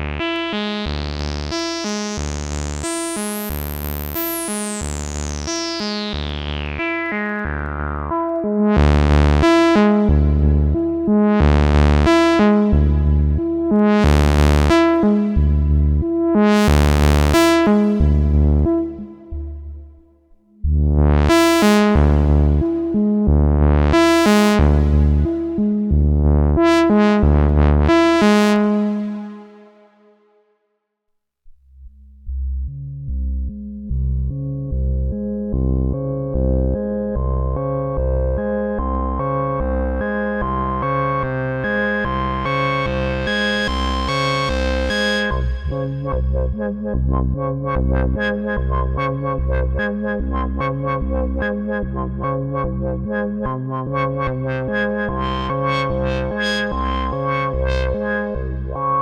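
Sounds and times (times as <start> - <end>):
synthesizer pulsing bass sequence: 0.0 - 30.2, 31.8 - 59.0.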